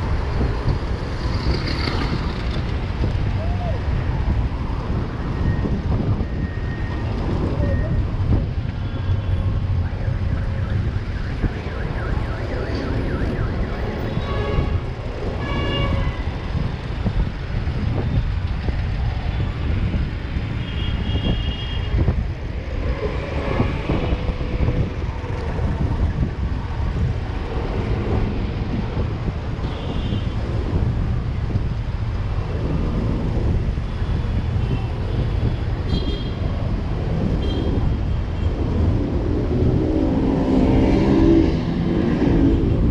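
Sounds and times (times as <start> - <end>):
traffic engines and road noise: 0.0 - 42.9.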